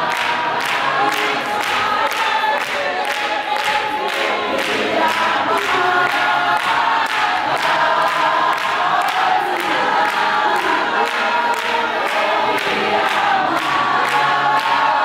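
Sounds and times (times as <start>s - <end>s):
congregation singing in harmony: 0.0s - 15.0s
hand-clapping: 0.0s - 15.0s.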